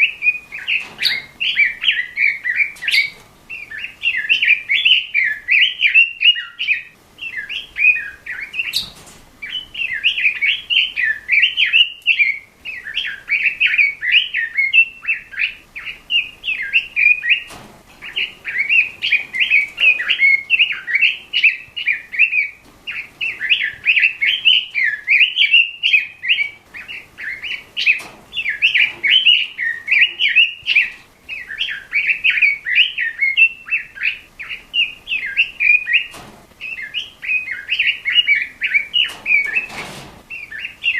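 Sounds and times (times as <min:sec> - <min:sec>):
bird singing warbled phrases: 0:00.0 - 0:40.9.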